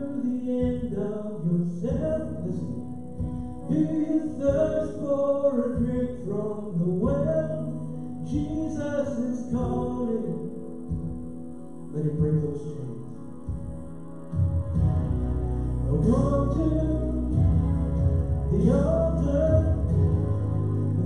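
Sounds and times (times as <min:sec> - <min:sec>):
instrumental accompaniment: 0:00.0 - 0:21.0.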